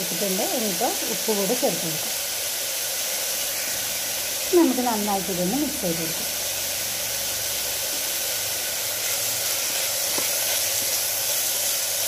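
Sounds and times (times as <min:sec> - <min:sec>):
onion and tomato sizzling: 0:00.0 - 0:12.0.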